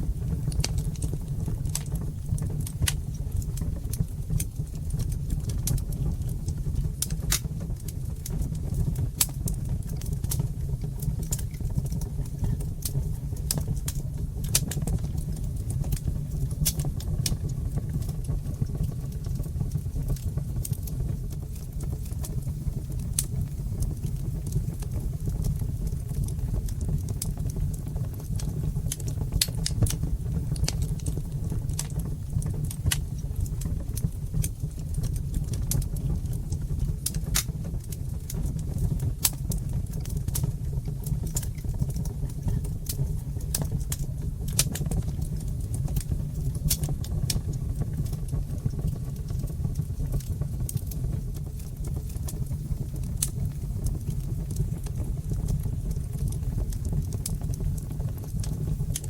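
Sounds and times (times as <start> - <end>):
fireplace fire crackling: 0.0 - 59.0
low rumble of flames: 0.0 - 59.0.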